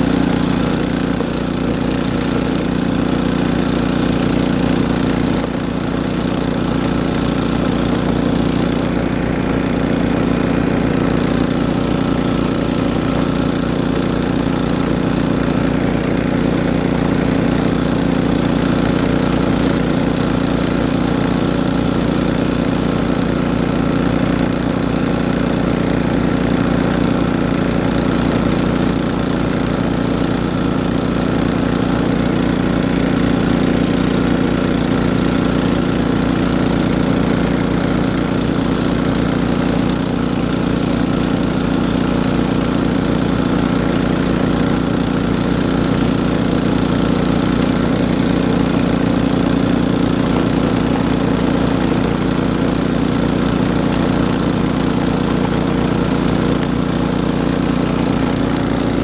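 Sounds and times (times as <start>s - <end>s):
snowblower engine running: 0.0s - 59.0s.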